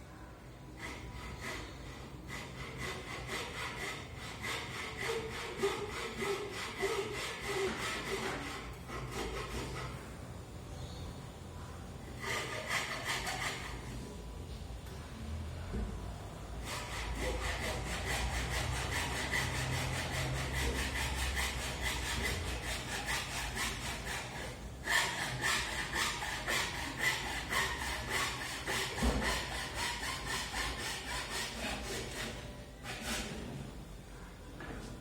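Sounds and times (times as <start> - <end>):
hand tool strokes on wood: 0.8 - 10.1, 12.2 - 14.1, 16.6 - 33.6.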